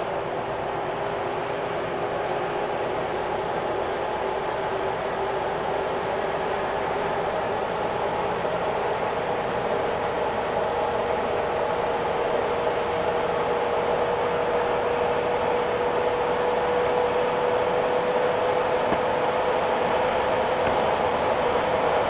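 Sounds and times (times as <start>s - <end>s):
vehicle engine and tyre noise: 0.0s - 22.0s.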